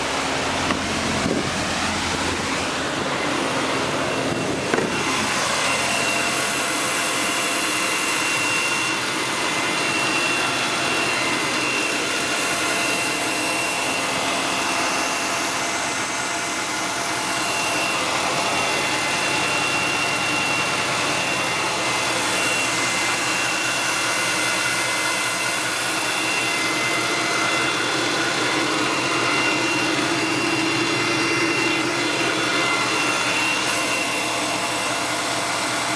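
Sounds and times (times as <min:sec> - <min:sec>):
boat engine running: 0:00.0 - 0:35.9
high whine: 0:00.0 - 0:35.9
rushing noise: 0:00.0 - 0:35.9.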